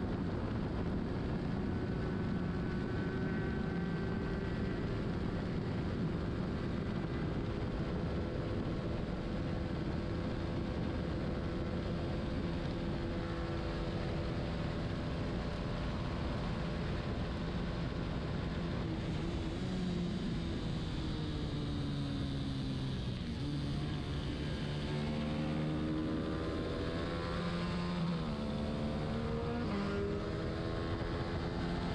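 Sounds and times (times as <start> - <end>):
racing motorcycle engine: 0.0 - 31.9.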